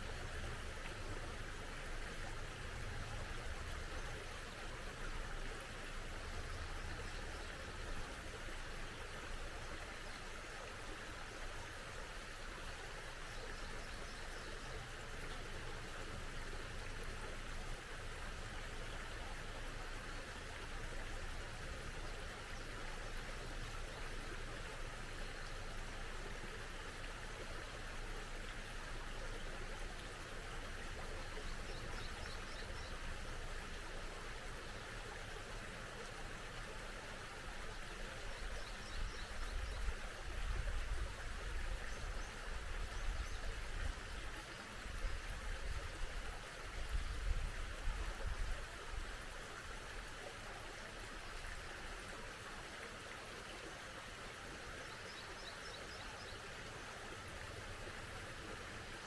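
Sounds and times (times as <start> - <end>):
small stream flowing: 0.0 - 59.0.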